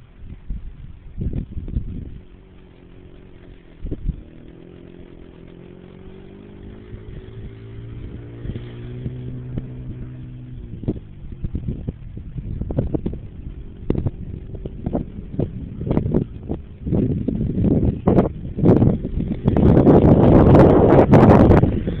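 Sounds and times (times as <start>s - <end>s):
quad bike engine running: 0.2s - 22.0s
low thumps: 1.2s - 22.0s.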